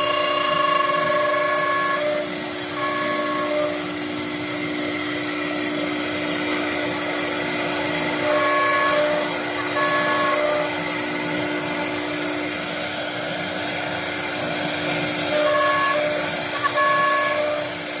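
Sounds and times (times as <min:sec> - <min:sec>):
high-pitched machine whine: 0:00.0 - 0:18.0
machine hiss and low hum: 0:00.0 - 0:18.0.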